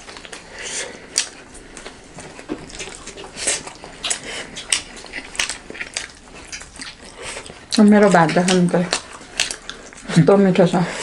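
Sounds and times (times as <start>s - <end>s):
lip smacks: 0.0s - 10.2s
chewing: 0.0s - 11.0s.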